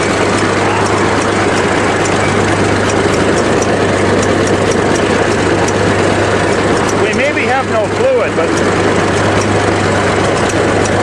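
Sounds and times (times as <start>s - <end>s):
bulldozer engine running: 0.0s - 11.0s.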